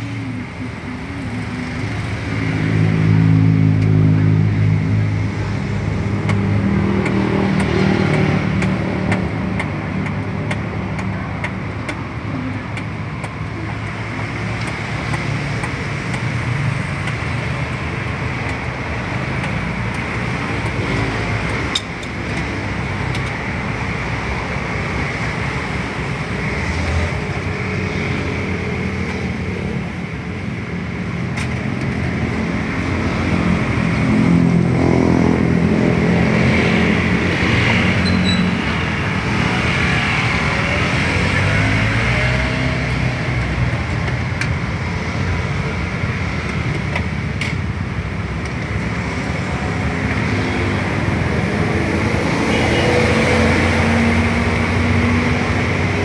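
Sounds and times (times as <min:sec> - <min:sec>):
street traffic engines: 0:00.0 - 0:56.0.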